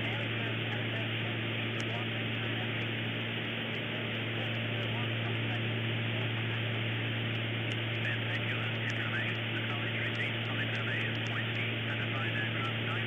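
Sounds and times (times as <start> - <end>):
constant low hum: 0.0 - 13.0
turboprop engines droning: 0.0 - 13.0.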